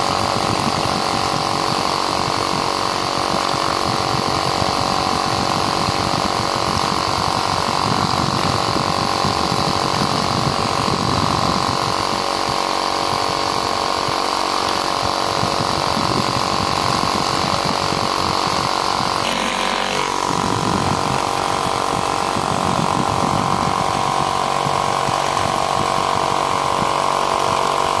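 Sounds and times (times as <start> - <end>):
electric fan humming and buzzing: 0.0 - 28.0.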